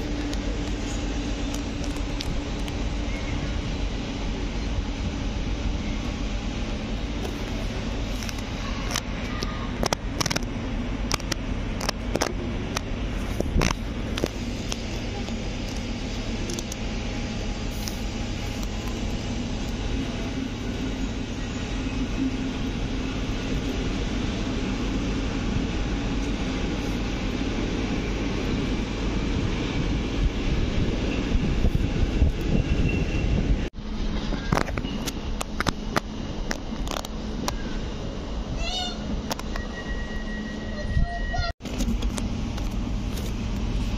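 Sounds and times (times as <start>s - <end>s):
train coaches rumbling past: 0.0s - 43.9s.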